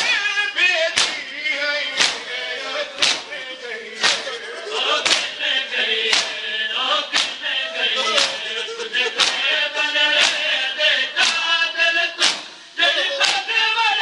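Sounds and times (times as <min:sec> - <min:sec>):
men beating their chests: 0:00.0 - 0:14.0
men chanting: 0:00.0 - 0:14.0.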